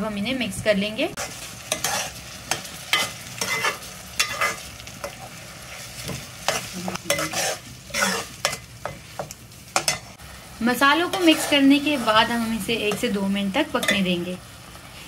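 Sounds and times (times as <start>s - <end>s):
frying sizzle: 0.0s - 15.0s
metal spoon scraping a pan: 1.2s - 10.2s, 11.0s - 14.2s.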